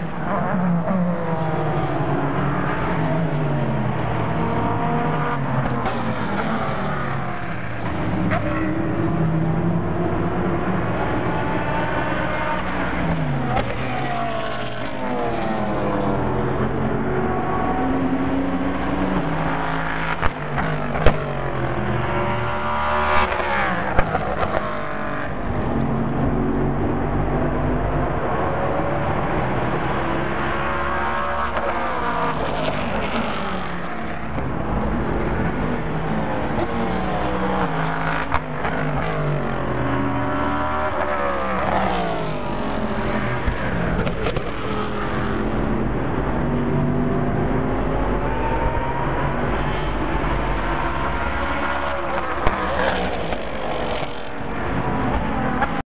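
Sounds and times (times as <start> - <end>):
distant race cars roaring: 0.0 - 55.8
race cars passing: 0.0 - 55.8.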